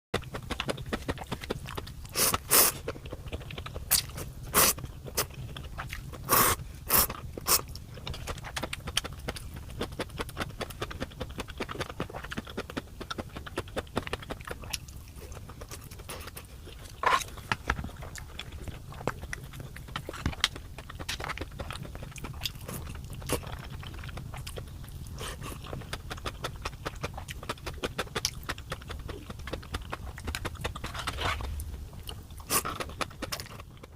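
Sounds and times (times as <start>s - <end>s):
person chewing: 0.2s - 33.9s.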